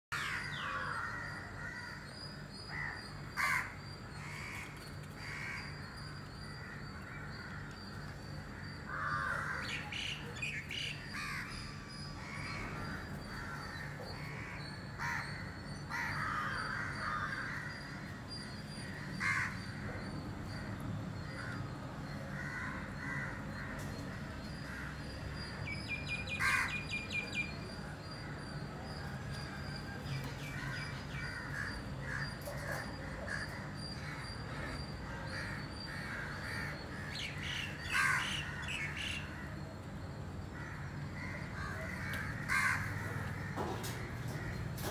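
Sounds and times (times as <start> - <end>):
birds calling: 0.1 - 44.9.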